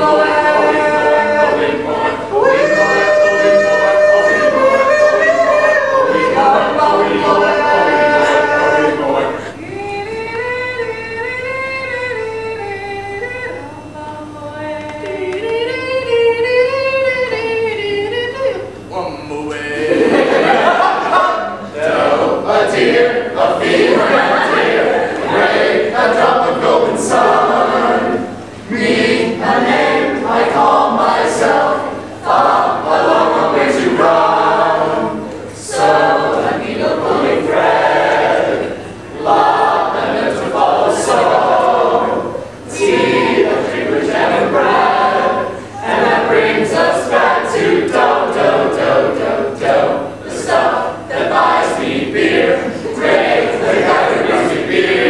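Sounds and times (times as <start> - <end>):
mixed choir singing a cappella: 0.0 - 19.1, 19.7 - 55.0.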